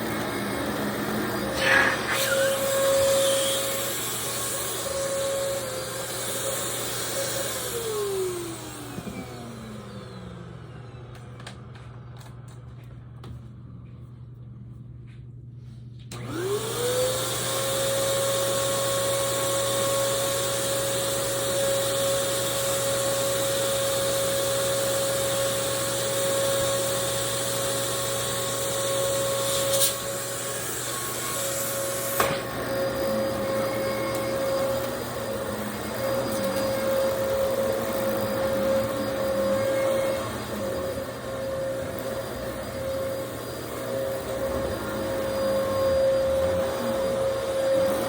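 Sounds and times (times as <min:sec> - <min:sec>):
vacuum cleaner running: 0:00.0 - 0:14.0, 0:16.1 - 0:48.0.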